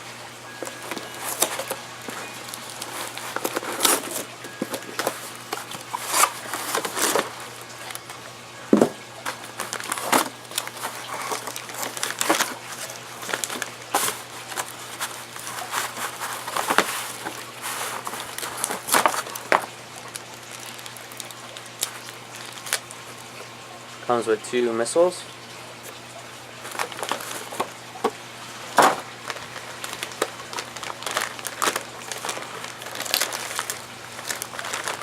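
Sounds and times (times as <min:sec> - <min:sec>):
plastic packaging crinkling: 0:00.0 - 0:23.8, 0:25.8 - 0:35.0.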